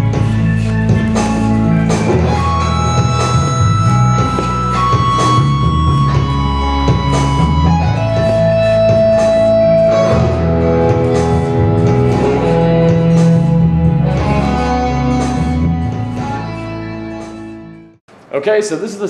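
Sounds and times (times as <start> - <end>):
guitar rock music: 0.0 - 18.0.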